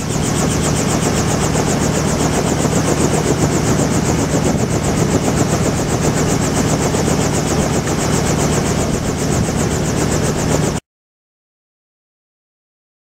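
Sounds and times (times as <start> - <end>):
helicopter engine hum: 0.0 - 10.8.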